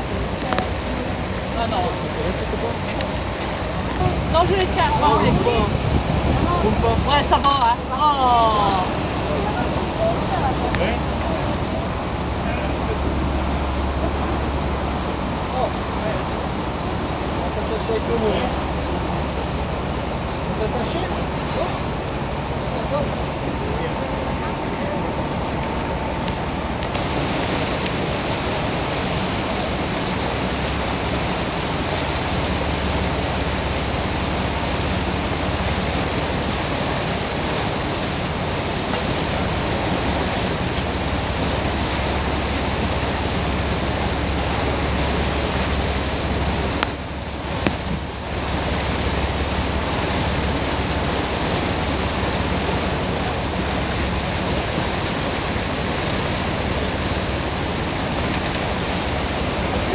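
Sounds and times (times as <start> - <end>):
churning wake water rushing: 0.0 - 59.9
low engine hum: 0.0 - 59.9
wind: 0.0 - 59.9.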